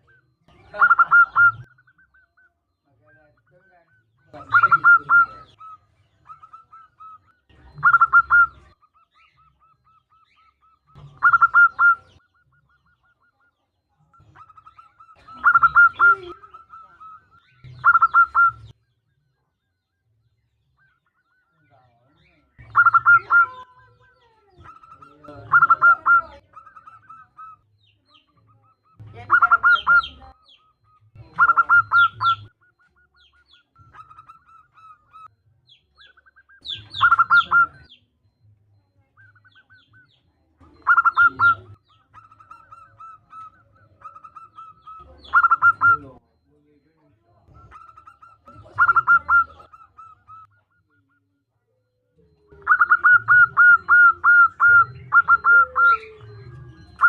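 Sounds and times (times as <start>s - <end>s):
dove cooing: 0.0s - 18.8s, 20.8s - 57.0s.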